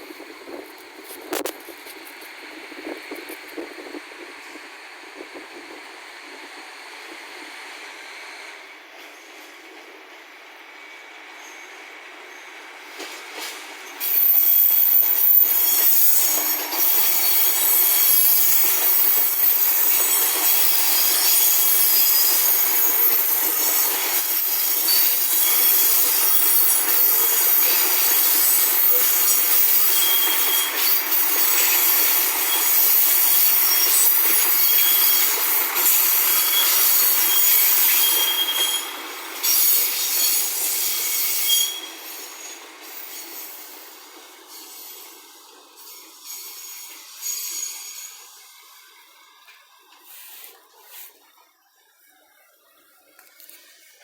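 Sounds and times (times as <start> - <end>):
train passing: 0.0 - 50.4
wheels squealing on rails: 0.0 - 51.2.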